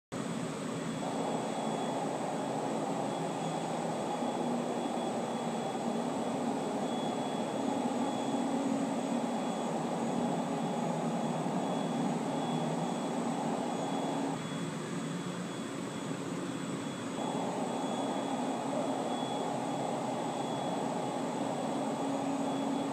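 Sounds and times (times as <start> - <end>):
faint high whine: 0.2 - 22.9
machine drone with rumbling hiss: 0.2 - 22.9.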